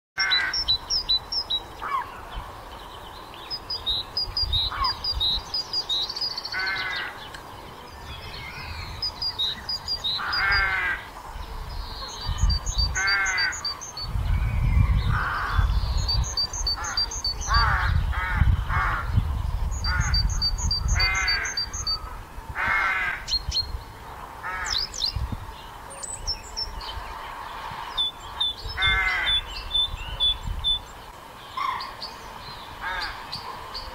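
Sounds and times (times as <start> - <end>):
harsh bird calls: 0.2 - 33.9.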